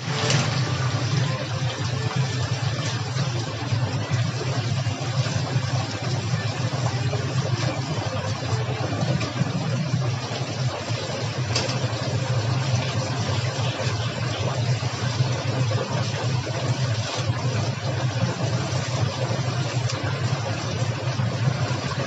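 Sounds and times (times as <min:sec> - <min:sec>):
low mechanical hum: 0:00.0 - 0:22.0
oil sizzling in a deep fryer: 0:00.0 - 0:22.0.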